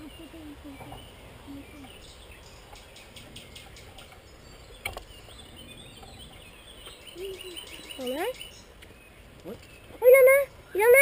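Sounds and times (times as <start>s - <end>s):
river and wind rumble: 0.0s - 11.0s.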